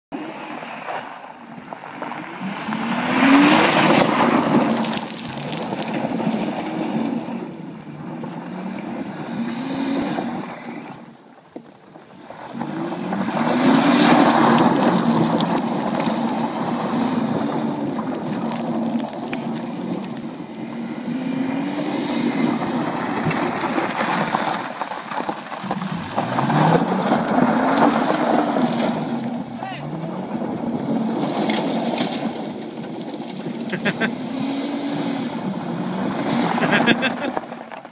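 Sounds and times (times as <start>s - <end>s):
car engine revving: 0.2s - 11.1s, 12.4s - 37.6s.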